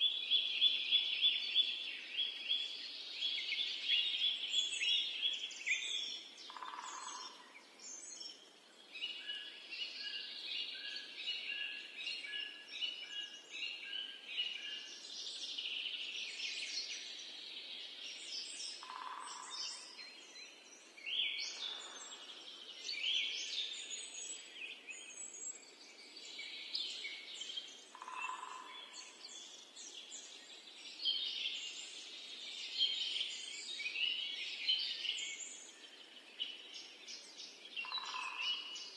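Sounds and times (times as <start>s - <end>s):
birds singing and calling: 0.0s - 38.9s.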